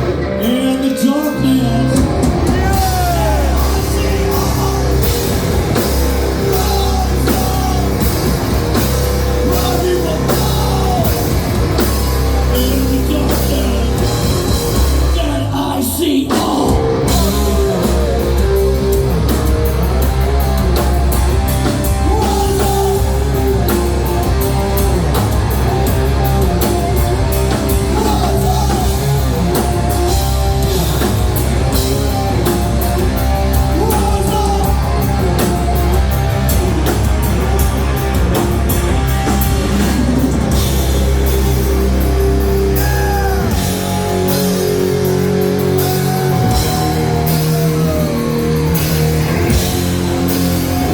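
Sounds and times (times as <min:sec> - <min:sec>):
bass guitar: 0:00.0 - 0:50.9
drum kit: 0:00.0 - 0:50.9
electric guitar: 0:00.0 - 0:50.9
person singing: 0:00.2 - 0:08.5, 0:09.1 - 0:19.4, 0:21.6 - 0:31.1, 0:31.7 - 0:38.2, 0:42.5 - 0:50.9.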